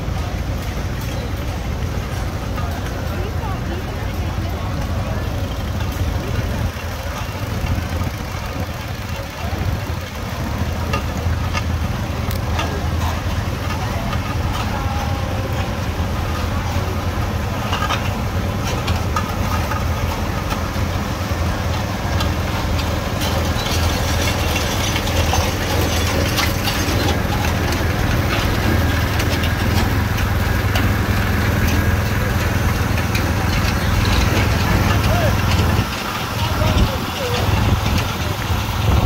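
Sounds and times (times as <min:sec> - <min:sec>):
tractor engine rumbling: 0:00.0 - 0:39.0.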